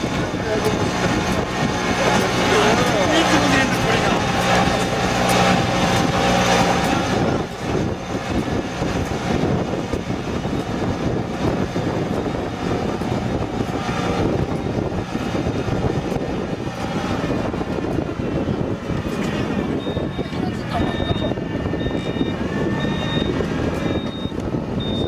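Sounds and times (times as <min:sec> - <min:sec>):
transplanter engine running: 0:00.0 - 0:25.0.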